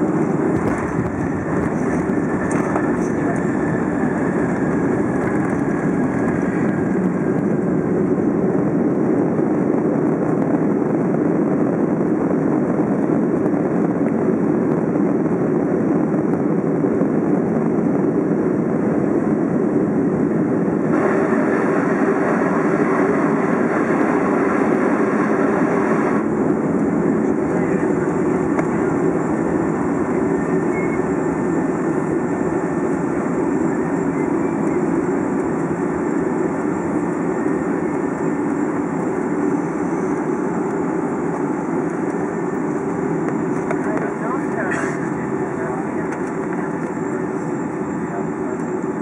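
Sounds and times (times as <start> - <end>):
airplane cabin rumble: 0.0 - 49.0.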